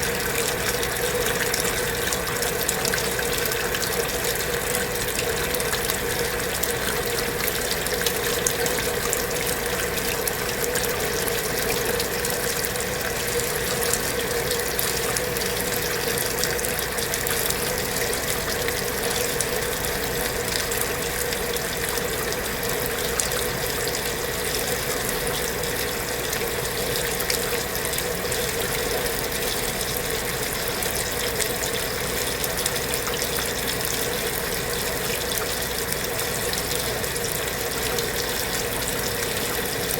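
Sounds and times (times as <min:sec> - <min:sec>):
motor hum: 0:00.0 - 0:39.9
water rushing in washing machine: 0:00.0 - 0:39.9.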